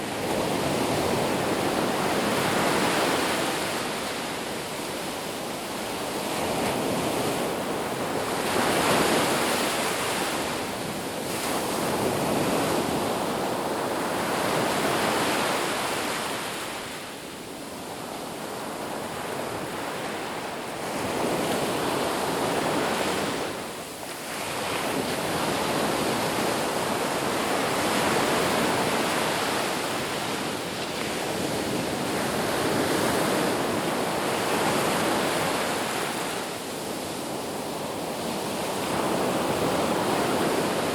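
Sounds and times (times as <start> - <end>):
ocean surf washing onto beach: 0.0 - 40.9.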